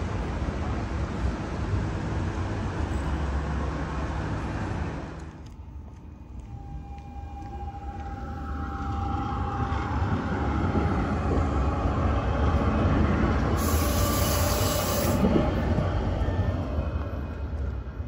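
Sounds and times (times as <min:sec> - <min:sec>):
tram running on rails: 0:00.0 - 0:18.0.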